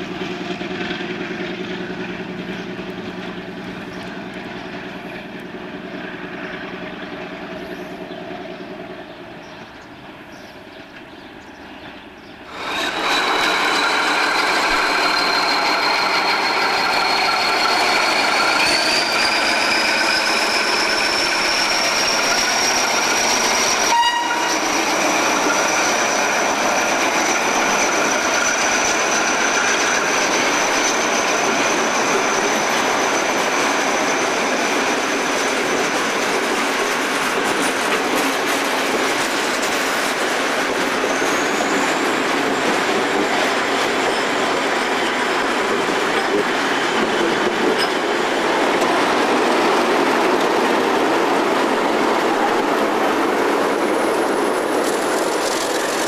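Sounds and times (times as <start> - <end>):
diesel locomotive engine: 0.0 - 56.0.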